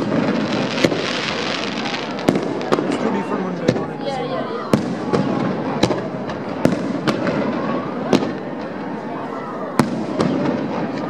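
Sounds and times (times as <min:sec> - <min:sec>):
fireworks bursting: 0:00.0 - 0:11.0
spectators' voices: 0:00.0 - 0:11.0.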